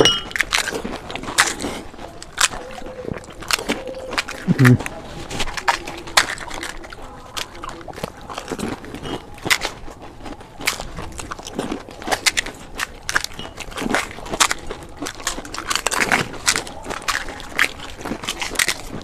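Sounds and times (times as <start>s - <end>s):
chewing: 0.0s - 19.0s
crisp shells crunching: 0.0s - 19.0s.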